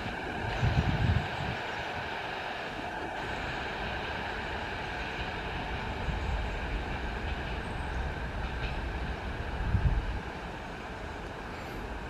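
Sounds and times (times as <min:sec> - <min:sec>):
electric train hum and rumble: 0:00.0 - 0:12.0.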